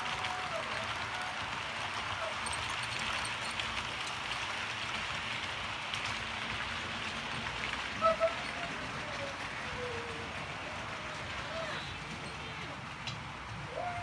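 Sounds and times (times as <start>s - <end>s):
model train wheels rattling: 0.0s - 13.7s.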